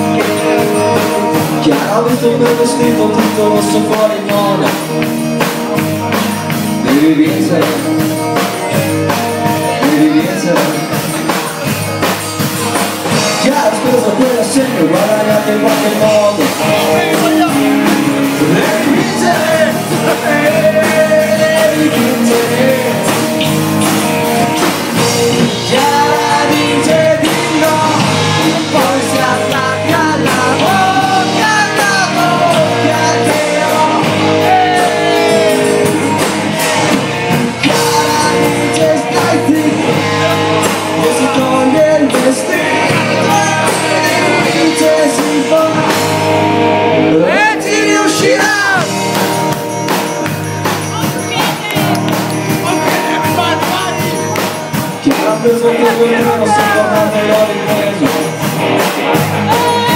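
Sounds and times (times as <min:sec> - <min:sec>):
person singing: 0:00.0 - 0:23.6, 0:24.6 - 0:46.2, 0:47.0 - 0:49.0, 0:51.0 - 0:59.9
live rock band playing: 0:00.0 - 0:59.9.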